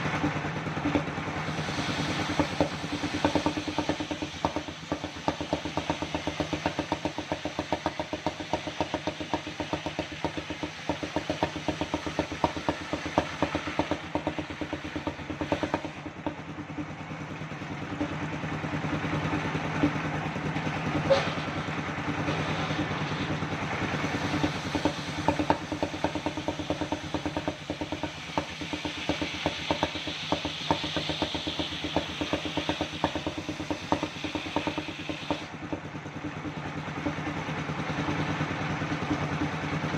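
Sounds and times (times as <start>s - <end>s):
sawmill mechanical knocking: 0.0s - 39.9s.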